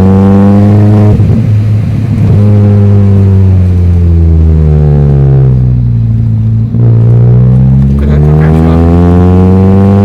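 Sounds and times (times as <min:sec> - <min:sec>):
loud car engine revving: 0:00.0 - 0:10.0.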